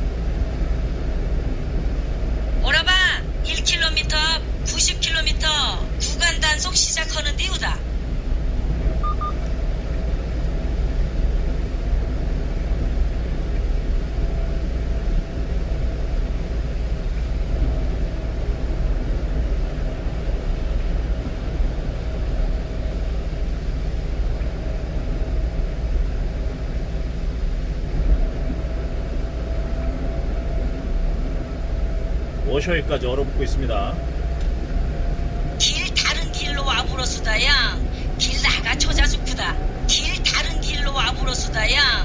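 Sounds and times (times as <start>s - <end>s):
faint steady hum: 0.0s - 42.0s
truck engine and road noise: 0.0s - 42.0s.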